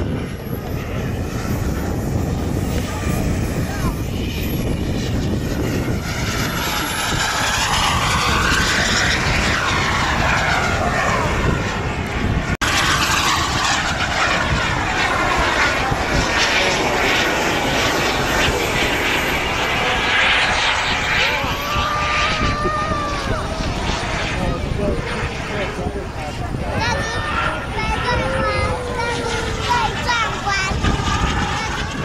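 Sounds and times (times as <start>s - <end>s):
model jet engine flying past: 0.0s - 32.0s.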